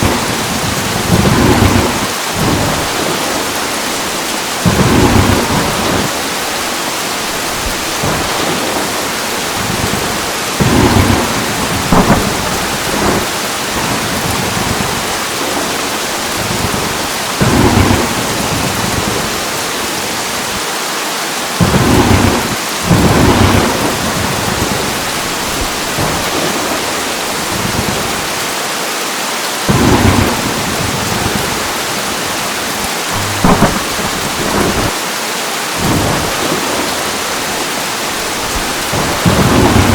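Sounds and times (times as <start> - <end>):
thunder claps: 0.0 - 20.6, 21.6 - 28.3, 29.7 - 35.0, 35.8 - 39.9
heavy rain hissing: 0.0 - 39.9.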